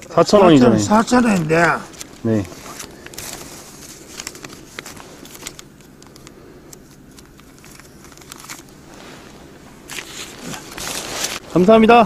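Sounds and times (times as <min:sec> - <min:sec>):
banknotes crinkling and rustling: 0:00.0 - 0:12.0.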